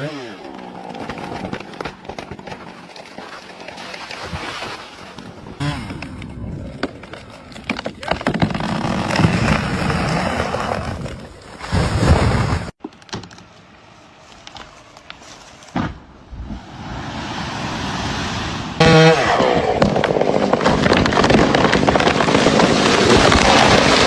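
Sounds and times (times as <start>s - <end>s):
trees falling and crashing: 0.0s - 24.0s.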